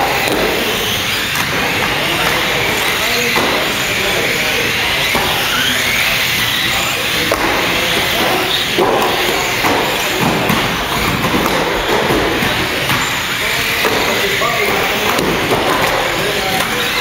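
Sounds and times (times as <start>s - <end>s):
crowd noise: 0.0s - 17.0s.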